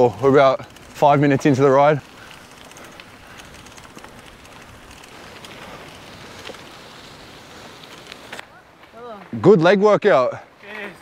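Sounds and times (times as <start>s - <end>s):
ticks of grit and stones: 0.0s - 9.3s
bike tyres crunching on gravel: 0.0s - 9.7s.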